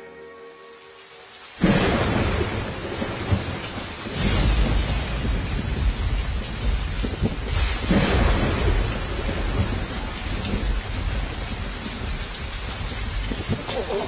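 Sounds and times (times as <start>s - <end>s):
heavy rain hissing: 0.0s - 14.0s
deep roll of thunder: 1.6s - 14.0s
thunder clap: 1.6s - 14.0s.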